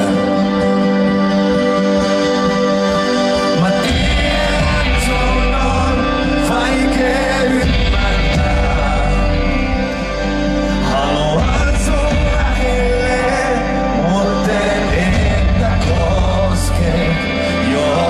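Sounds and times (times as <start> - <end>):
man singing: 0.0 - 1.0, 3.2 - 18.0
pop-rock band playing: 0.0 - 18.0.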